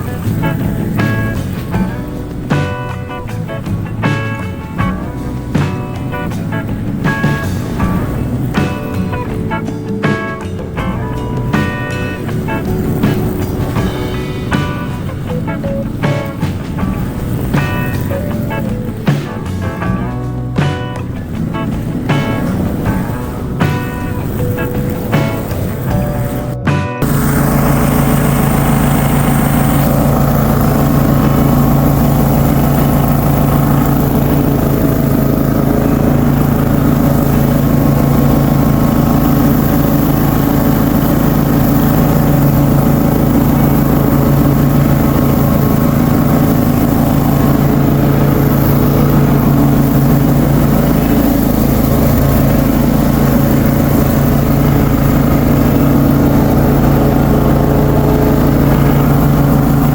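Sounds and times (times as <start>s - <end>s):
ride-on lawn mower engine running: 0.0s - 59.9s.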